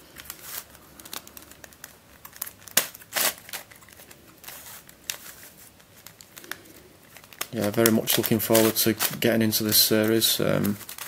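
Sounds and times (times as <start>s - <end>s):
plastic puzzle clicking and scraping: 0.2s - 11.0s.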